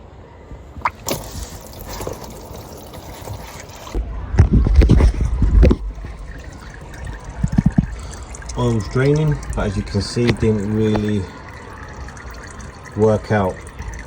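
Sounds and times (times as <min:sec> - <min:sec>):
oil trickling and splashing: 0:00.8 - 0:04.0, 0:05.0 - 0:14.0.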